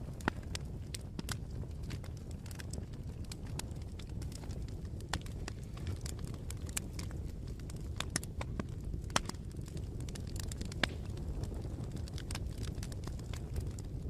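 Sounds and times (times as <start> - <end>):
bonfire crackling and popping: 0.0 - 14.0
low rumble of flames: 0.0 - 14.0.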